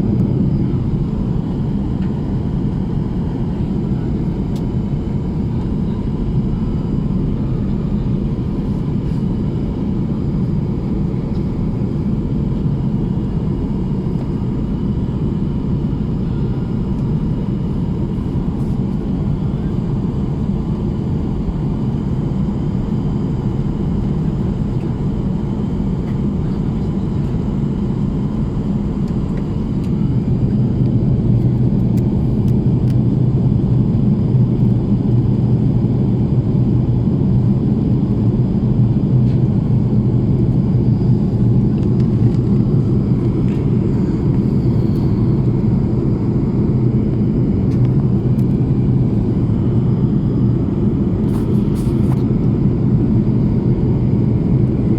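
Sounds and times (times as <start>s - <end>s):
airplane drone: 0.0s - 54.9s.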